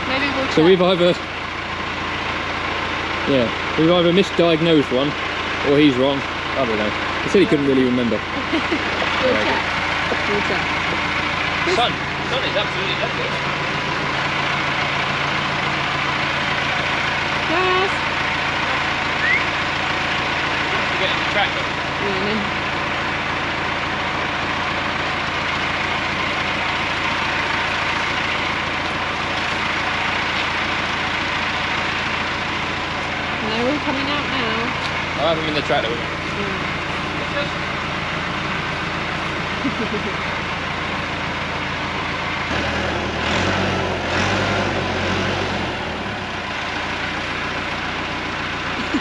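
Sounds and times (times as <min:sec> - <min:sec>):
tractor engine running: 0:00.0 - 0:49.0.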